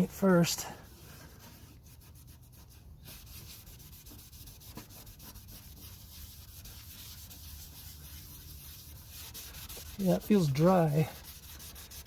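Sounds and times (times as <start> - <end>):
cloth rubbing on car paint: 0.8 - 12.0.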